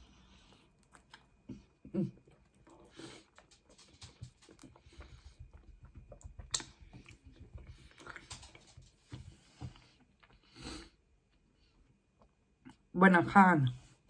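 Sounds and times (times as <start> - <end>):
person chewing crunchy crust: 0.0 - 11.4.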